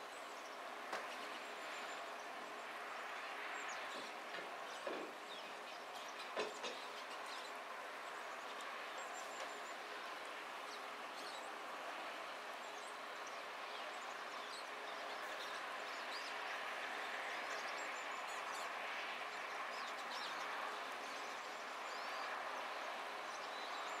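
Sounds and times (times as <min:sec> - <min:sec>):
rush of traffic noise: 0:00.0 - 0:24.0
songbirds chirping: 0:00.0 - 0:24.0.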